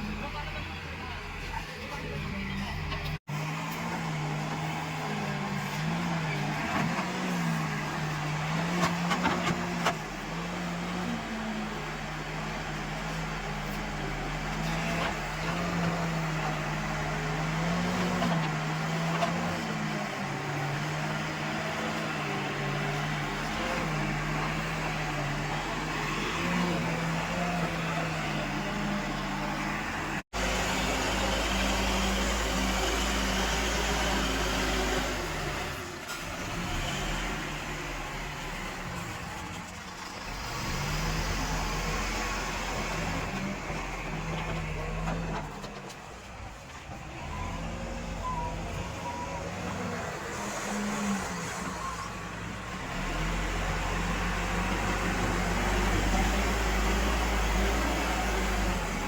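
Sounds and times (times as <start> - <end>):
diesel engine working: 0.0 - 59.0.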